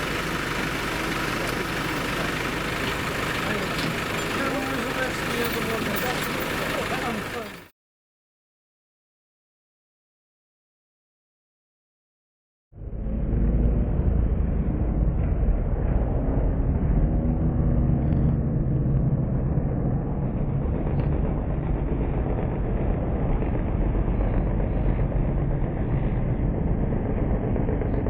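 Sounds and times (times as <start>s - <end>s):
racing car engines revving: 0.0s - 7.7s, 12.8s - 28.0s.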